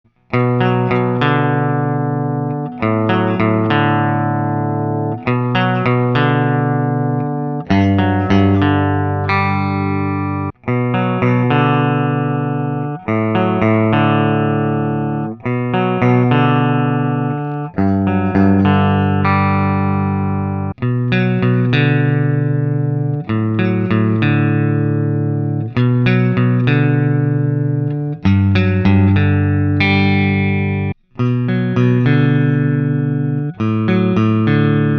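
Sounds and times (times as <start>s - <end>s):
guitar chords strummed: 0.2s - 34.9s.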